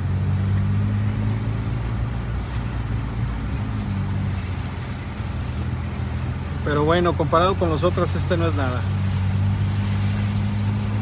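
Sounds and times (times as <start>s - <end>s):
car engine hum: 0.0s - 11.0s
water swishing under tyres: 0.0s - 11.0s.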